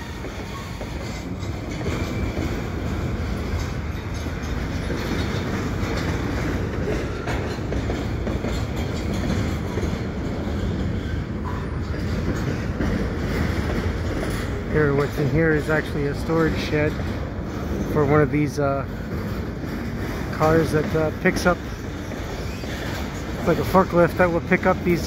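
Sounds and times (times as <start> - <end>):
train wheels rolling on rail: 0.0 - 25.0.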